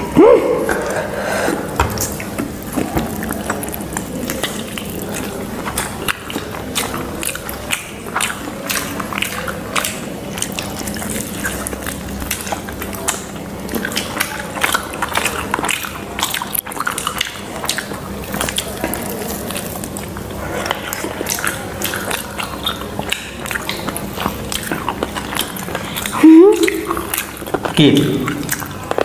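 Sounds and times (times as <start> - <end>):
chewing and wet mouth sounds: 0.0 - 29.0.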